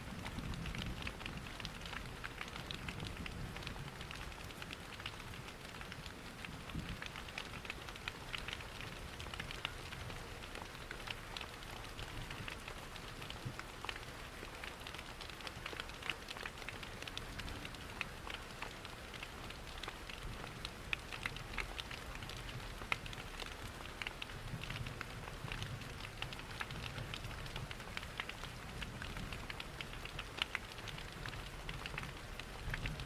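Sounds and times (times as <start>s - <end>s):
steady rain patter: 0.0s - 33.0s.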